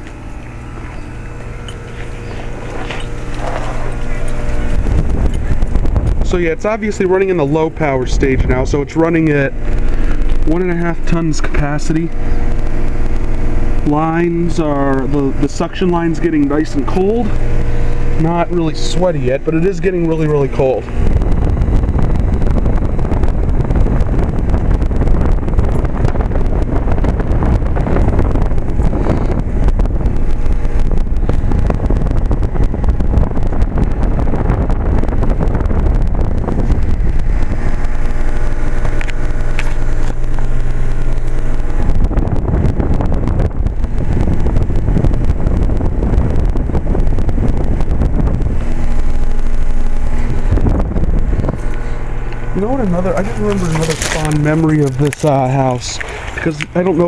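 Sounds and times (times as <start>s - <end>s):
compressor hum: 0.0s - 57.0s
fan air rumble buffeting microphone: 0.0s - 57.0s.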